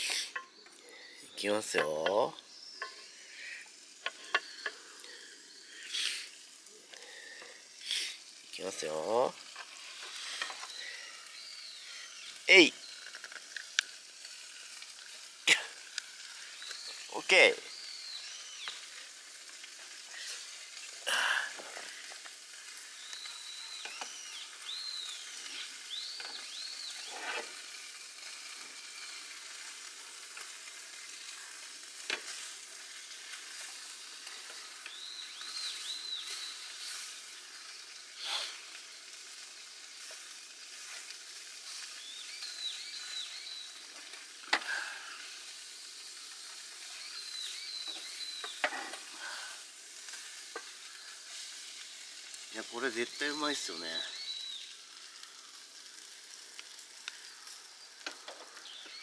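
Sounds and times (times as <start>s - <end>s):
sandwich sizzling in butter: 0.0s - 59.0s.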